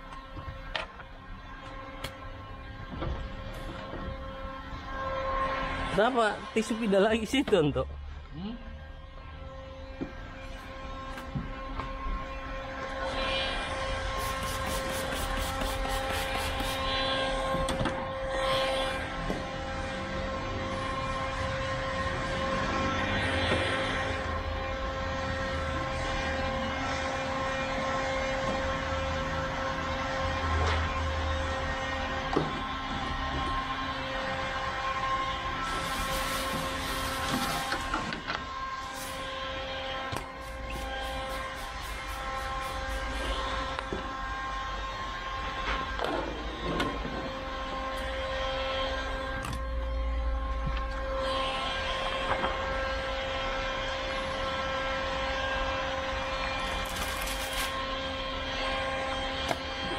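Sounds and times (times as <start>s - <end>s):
steady machine hum: 7.9s - 59.9s
motor or fan whining: 8.4s - 59.9s.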